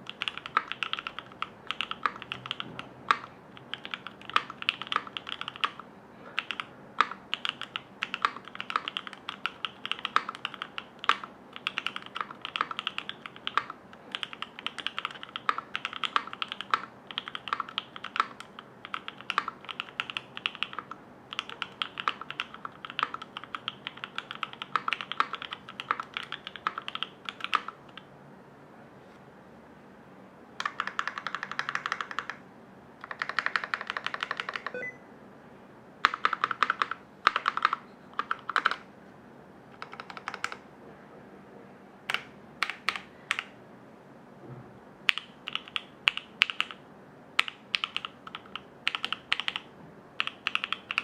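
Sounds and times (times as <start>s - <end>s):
fast typing on mechanical keyboard: 0.0s - 28.1s, 30.6s - 32.4s, 33.0s - 34.8s, 36.0s - 38.9s, 39.7s - 40.6s, 42.1s - 43.5s, 45.1s - 46.8s, 47.4s - 51.0s.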